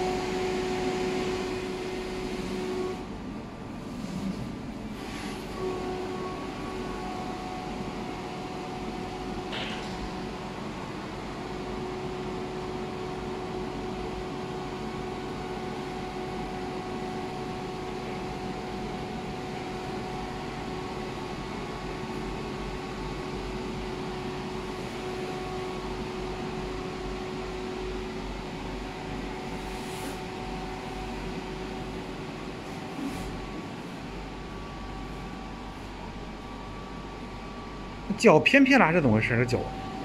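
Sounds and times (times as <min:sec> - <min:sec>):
inflation blower fan humming: 0:00.0 - 0:40.0.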